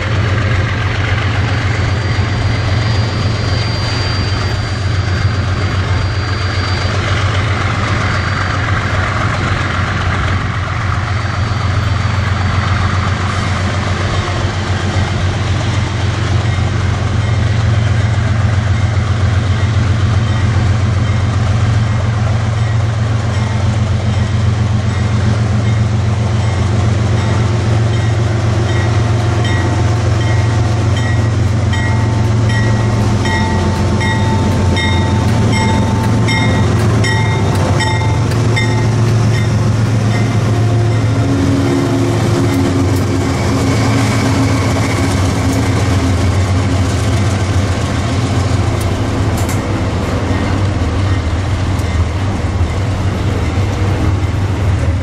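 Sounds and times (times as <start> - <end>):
locomotive engine drone: 0.0 - 55.0
train wheels clicking: 0.0 - 55.0.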